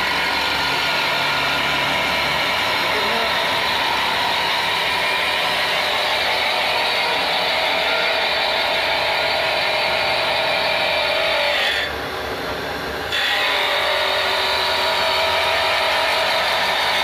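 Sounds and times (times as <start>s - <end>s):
grinder grinding metal: 0.0s - 12.2s, 13.0s - 17.0s
motors whining: 0.0s - 17.0s.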